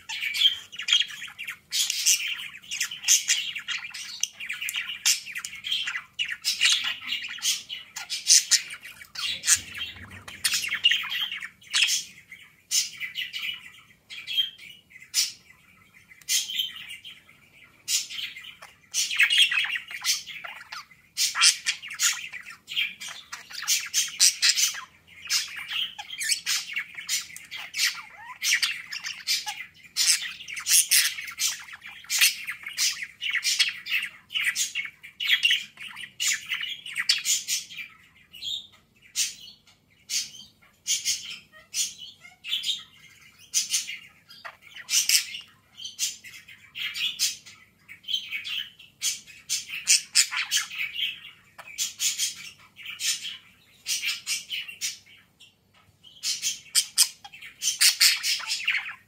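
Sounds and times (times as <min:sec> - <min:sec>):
budgerigar chattering and warbling: 0:00.0 - 0:15.4, 0:17.8 - 0:37.9, 0:38.5 - 0:55.5, 0:56.1 - 0:59.0.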